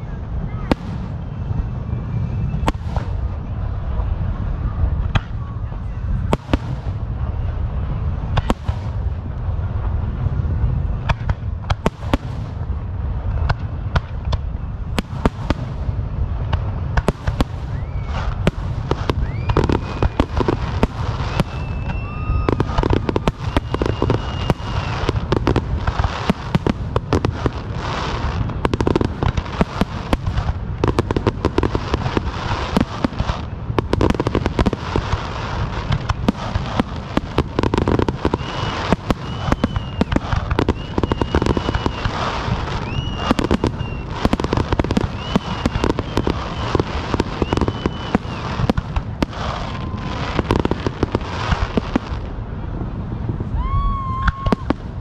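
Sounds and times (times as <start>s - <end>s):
high firework whistles: 0.0s - 9.2s, 10.5s - 52.4s, 53.5s - 55.0s
fireworks cracks and bangs: 0.0s - 55.0s
low rumble: 0.0s - 55.0s.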